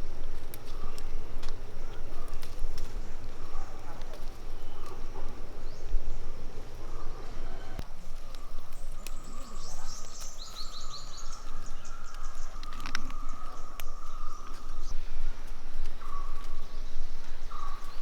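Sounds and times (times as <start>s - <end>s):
bird chirping: 0.0s - 18.0s
steady high insect hum: 0.0s - 18.0s.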